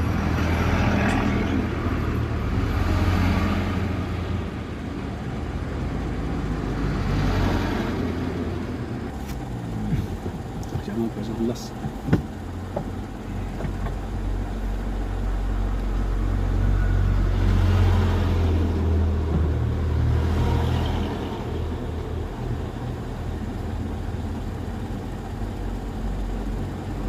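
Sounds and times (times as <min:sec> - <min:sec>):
truck engine humming: 0:00.0 - 0:27.0.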